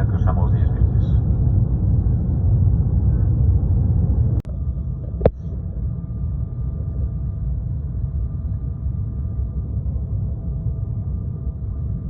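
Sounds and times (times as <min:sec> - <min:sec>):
airliner cabin rumble: 0:00.0 - 0:12.0
faint steady hum: 0:00.0 - 0:12.0.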